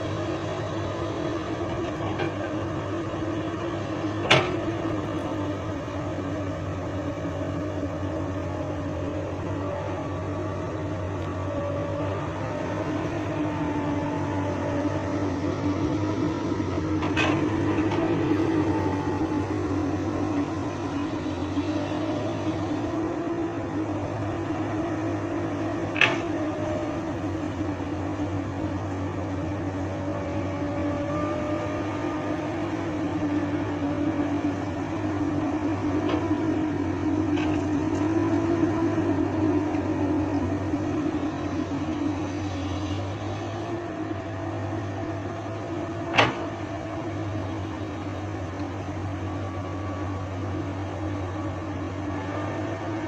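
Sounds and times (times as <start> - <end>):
excavator diesel engine droning: 0.0 - 53.0.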